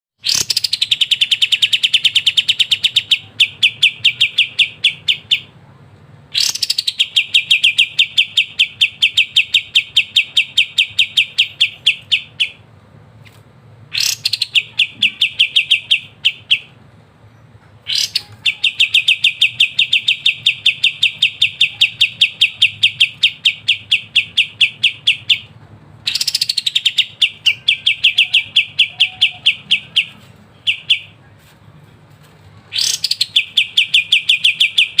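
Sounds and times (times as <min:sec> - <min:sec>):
songbird rapid chattering song: 0:00.2 - 0:05.6, 0:06.3 - 0:12.6, 0:13.9 - 0:31.2, 0:32.7 - 0:35.0.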